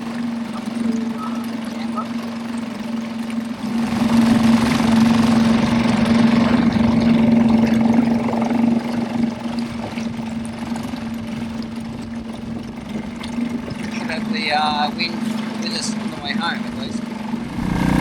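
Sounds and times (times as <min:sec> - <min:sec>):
small outboard motor running: 0:00.0 - 0:18.0
water and wind rushing: 0:00.0 - 0:18.0.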